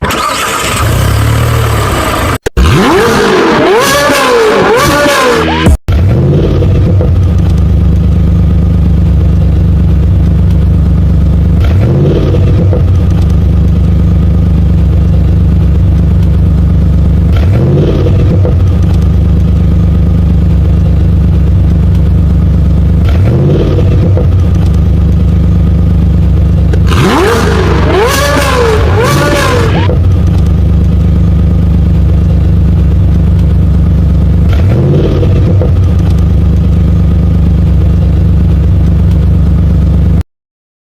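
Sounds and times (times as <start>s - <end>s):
car engine idling: 0.0s - 40.2s.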